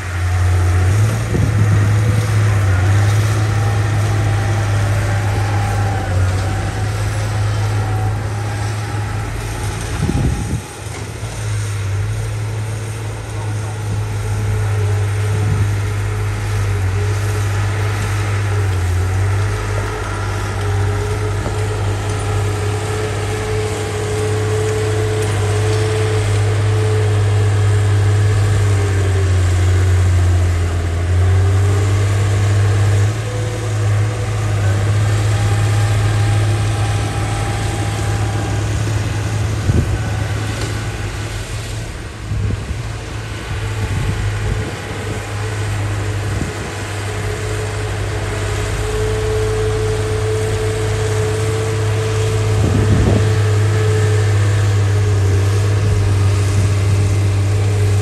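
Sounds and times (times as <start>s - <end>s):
diesel engine droning: 0.0s - 58.0s
whining tone: 0.0s - 58.0s.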